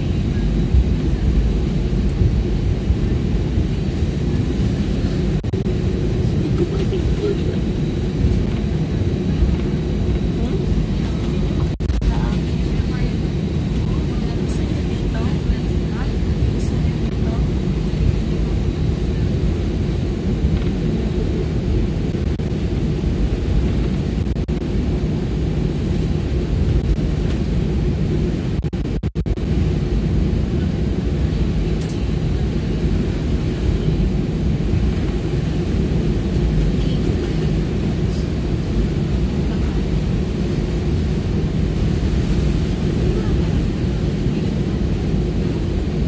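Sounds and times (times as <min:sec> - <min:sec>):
airliner engine drone: 0:00.0 - 0:46.0.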